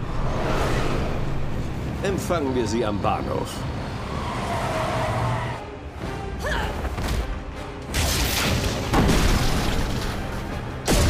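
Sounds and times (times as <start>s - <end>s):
action film music: 0.0s - 11.0s.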